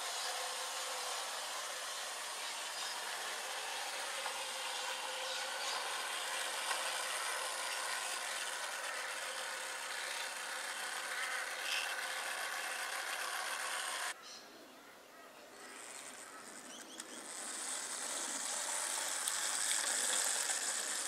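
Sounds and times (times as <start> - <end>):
model tram motor whirring: 0.0 - 14.2, 15.5 - 21.0
wheels rolling on rails: 0.0 - 14.2, 15.5 - 21.0.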